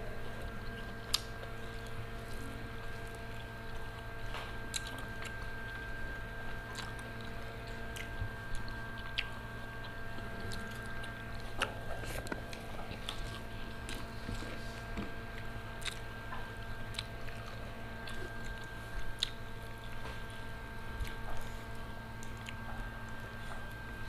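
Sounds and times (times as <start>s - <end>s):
people chewing food: 0.0s - 24.0s
steady background hum: 0.0s - 24.0s.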